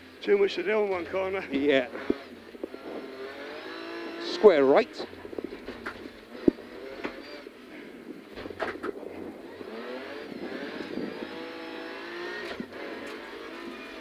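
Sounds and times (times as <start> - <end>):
rally car engine accelerating: 0.9 - 14.0.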